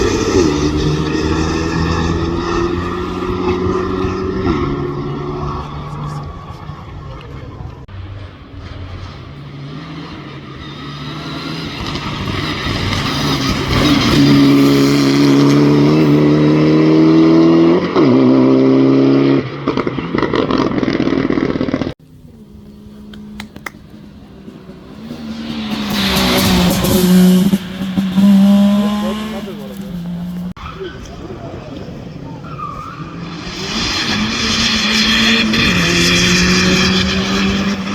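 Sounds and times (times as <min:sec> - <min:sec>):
gear change: 0:00.0 - 0:31.2
rally car engine at full throttle: 0:00.0 - 0:37.9
rally car passing loudly: 0:00.0 - 0:37.9.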